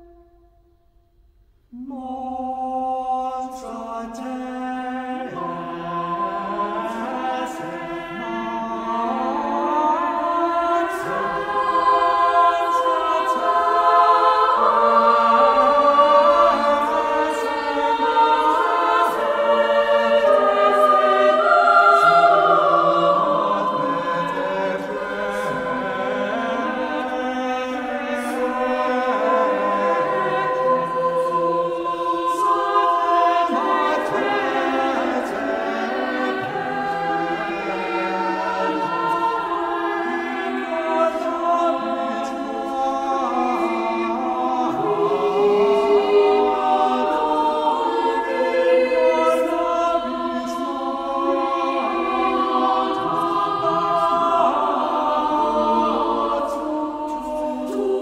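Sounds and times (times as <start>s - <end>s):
choir singing slow piece: 0.0s - 58.0s.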